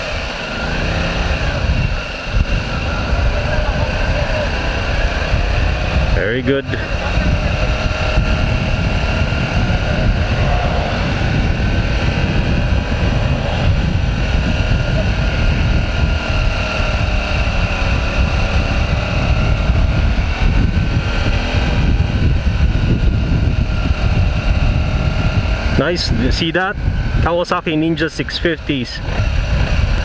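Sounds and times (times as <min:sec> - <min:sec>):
motorcycle engine hum: 0:00.0 - 0:30.0
wind buffeting microphone: 0:00.0 - 0:30.0.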